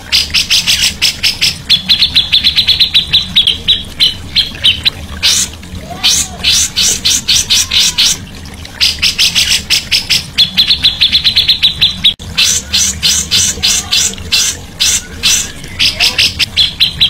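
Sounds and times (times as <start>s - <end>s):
songbird chirping: 0.0s - 8.2s, 8.8s - 17.0s.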